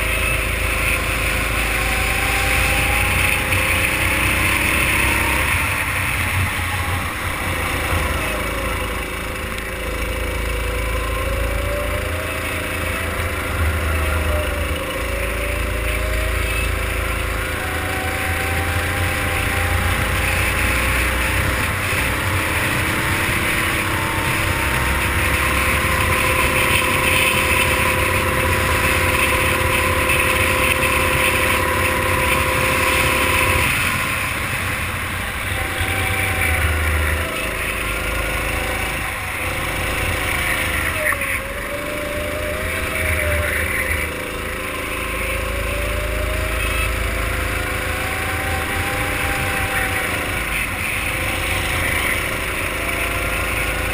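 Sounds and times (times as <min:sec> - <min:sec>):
racing kart engine running hard: 0:00.0 - 0:53.9.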